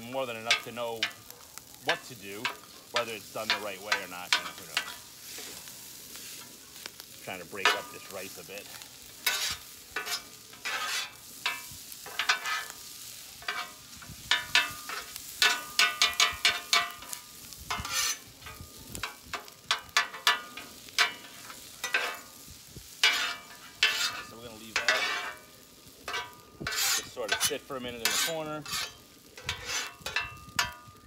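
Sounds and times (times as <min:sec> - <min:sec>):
spatulas scraping on griddle: 0:00.0 - 0:31.0
steady sizzle: 0:00.0 - 0:31.0.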